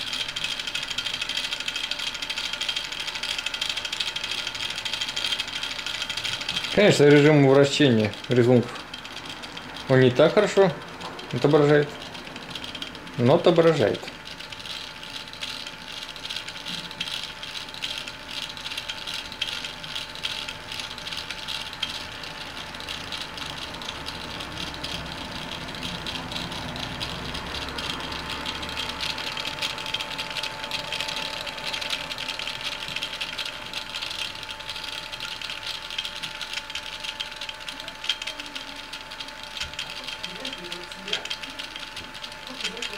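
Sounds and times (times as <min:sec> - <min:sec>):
stepper motors rattling: 0:00.0 - 0:42.9
thin steady whine: 0:00.0 - 0:42.9.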